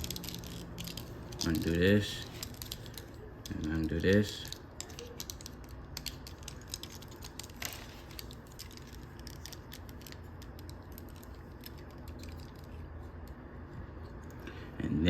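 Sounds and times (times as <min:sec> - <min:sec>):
plastic toy parts clicking: 0:00.0 - 0:13.4.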